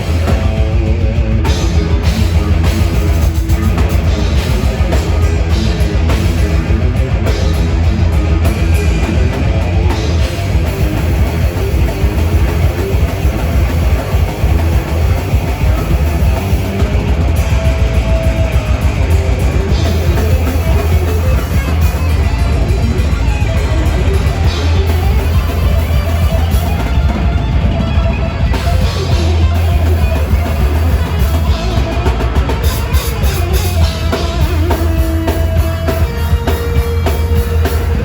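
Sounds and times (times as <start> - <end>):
heavy metal band playing live: 0.0 - 38.0.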